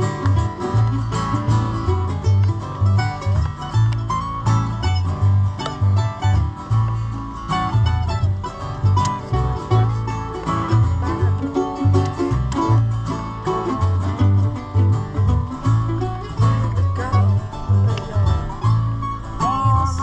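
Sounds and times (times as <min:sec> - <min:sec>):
acoustic guitar: 0:00.0 - 0:20.0
banjo picking: 0:00.0 - 0:20.0
bass line of low notes: 0:00.0 - 0:20.0.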